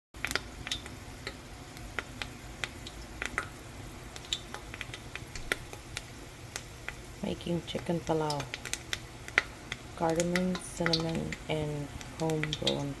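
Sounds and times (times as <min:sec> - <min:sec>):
hot oil sizzling: 0:00.2 - 0:13.0
oil popping and crackling: 0:00.2 - 0:13.0.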